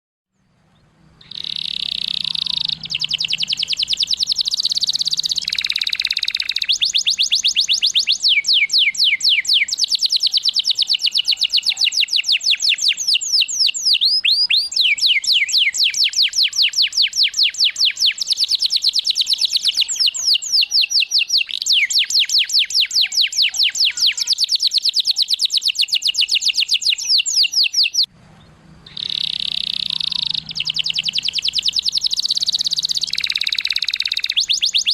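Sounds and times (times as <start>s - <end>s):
canary singing trills: 0.3s - 34.9s.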